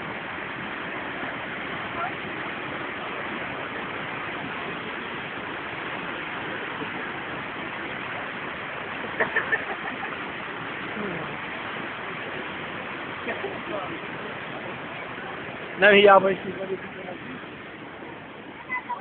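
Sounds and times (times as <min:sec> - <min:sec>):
rushing waterfall: 0:00.0 - 0:19.0.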